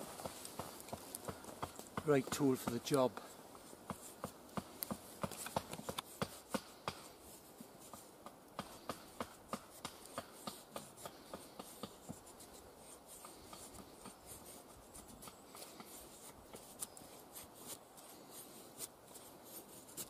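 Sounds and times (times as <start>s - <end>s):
knife shaving wood: 0.1s - 20.0s.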